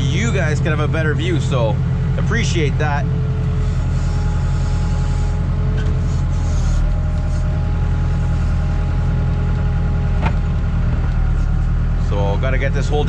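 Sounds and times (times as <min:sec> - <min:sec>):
backhoe diesel engine running: 0:00.0 - 0:13.0.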